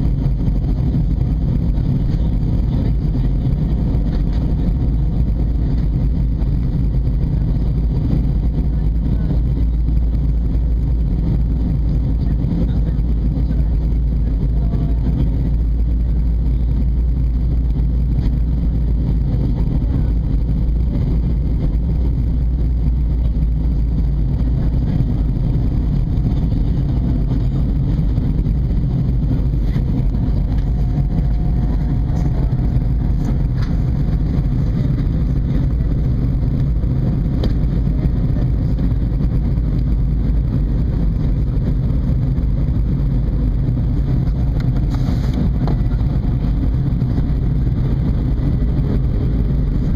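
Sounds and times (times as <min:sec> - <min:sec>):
faint steady hum: 0:00.0 - 0:49.9
jet cabin rumble: 0:00.0 - 0:49.9.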